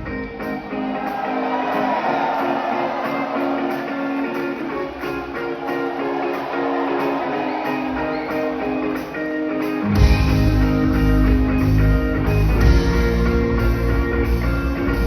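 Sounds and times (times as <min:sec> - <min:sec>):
band playing guitar chords: 0:00.0 - 0:15.0.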